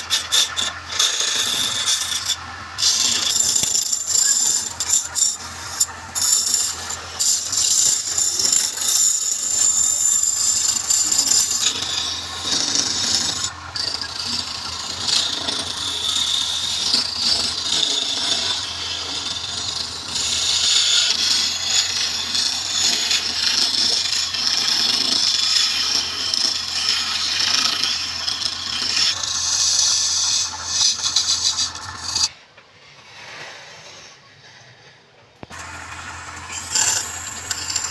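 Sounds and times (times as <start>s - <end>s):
lathe motor hum: 0.0s - 32.3s, 35.5s - 37.9s
tool scraping spinning wood: 0.0s - 37.9s.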